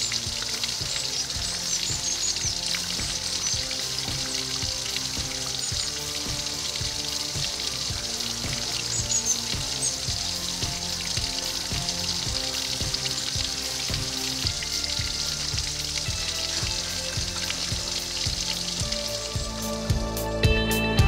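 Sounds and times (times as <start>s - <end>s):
water trickling over rock: 0.0s - 20.1s
background music with beat: 0.0s - 21.0s.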